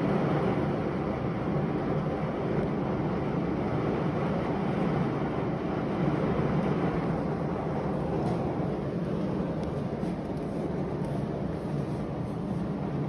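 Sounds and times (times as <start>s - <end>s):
thunderstorm rushing noise: 0.0s - 13.0s.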